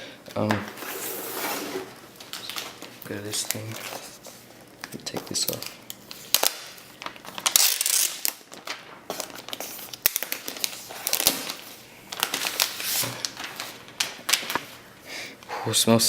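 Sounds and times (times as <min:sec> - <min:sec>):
plastic wrapping crinkling: 0:01.8 - 0:15.0.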